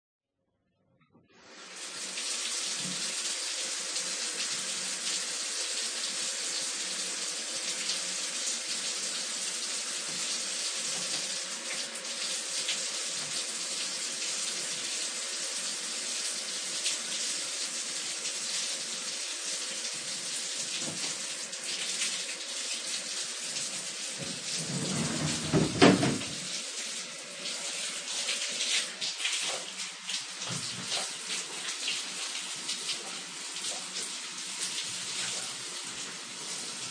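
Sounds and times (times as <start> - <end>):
shower water spray hissing: 1.4 - 36.9.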